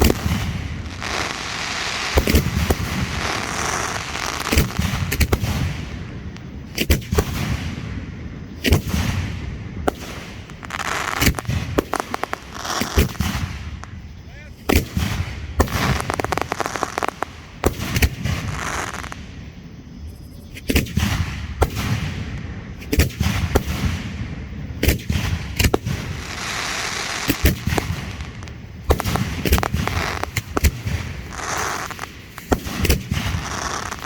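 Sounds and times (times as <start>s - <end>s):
fireworks bangs: 0.0s - 19.6s, 20.6s - 34.0s
fireworks crackling hiss: 0.0s - 19.8s, 20.6s - 34.0s.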